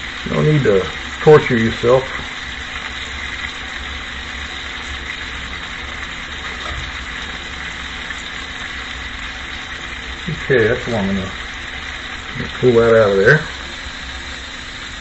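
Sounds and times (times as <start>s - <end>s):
low steady hum: 0.0s - 15.0s
steak sizzling in a skillet: 0.0s - 15.0s.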